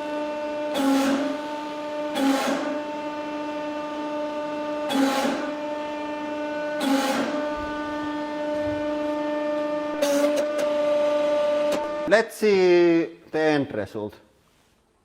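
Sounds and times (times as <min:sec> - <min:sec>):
hydraulic pump motor whine: 0:00.0 - 0:12.1.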